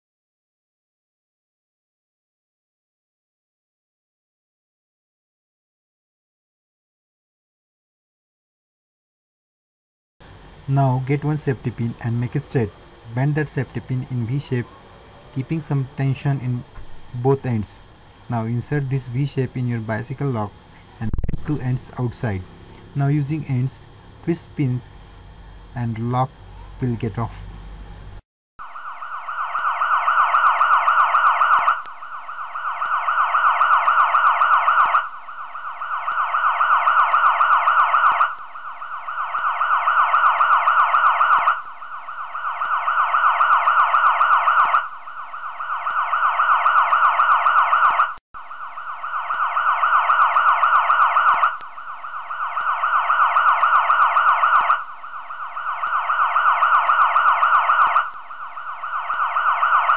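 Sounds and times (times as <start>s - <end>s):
electronic siren warble: 10.3s - 59.9s.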